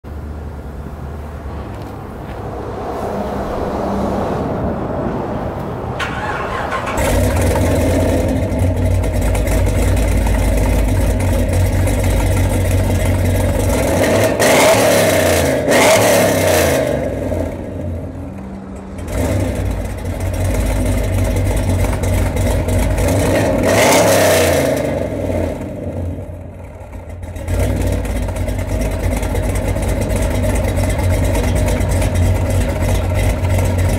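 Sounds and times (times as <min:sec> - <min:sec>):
car engine starting and idling: 0:00.1 - 0:33.9
car engine revving: 0:01.2 - 0:33.9.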